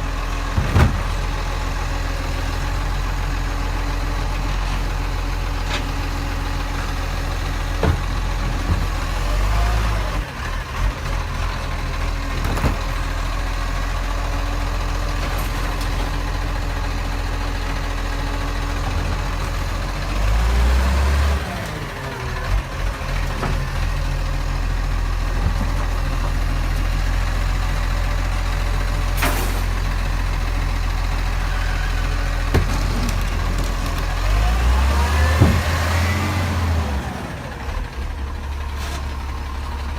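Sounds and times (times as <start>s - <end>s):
garbage truck engine idling: 0.0s - 39.9s.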